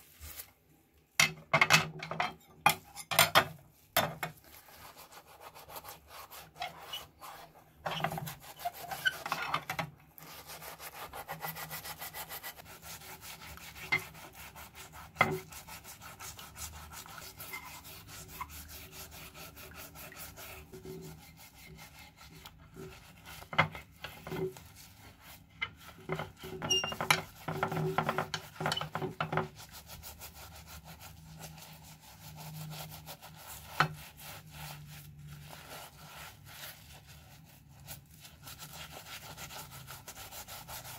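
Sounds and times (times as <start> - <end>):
scouring pad scrubbing metal: 4.2 - 40.9.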